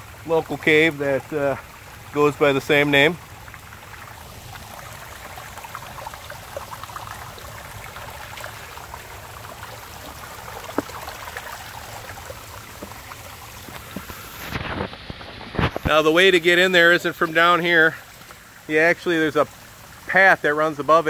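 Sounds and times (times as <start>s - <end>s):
water trickling onto stones: 0.0s - 21.0s.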